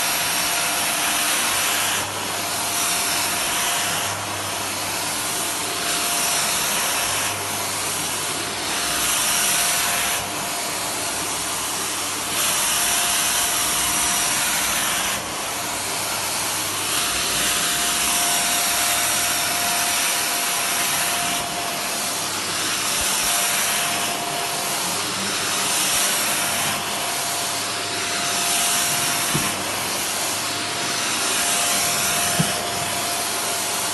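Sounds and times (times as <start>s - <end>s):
vacuum cleaner on carpet: 0.0s - 33.9s.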